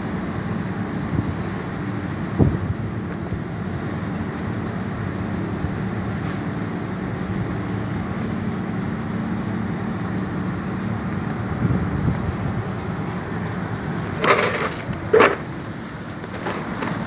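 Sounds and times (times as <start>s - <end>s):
low machine hum: 0.0s - 17.0s
wind or air noise: 0.0s - 17.0s.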